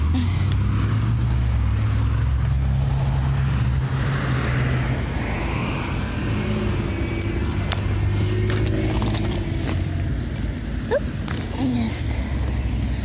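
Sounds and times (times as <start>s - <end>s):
engine hum of traffic: 0.0s - 13.0s
tyre noise of passing vehicle: 0.0s - 13.0s.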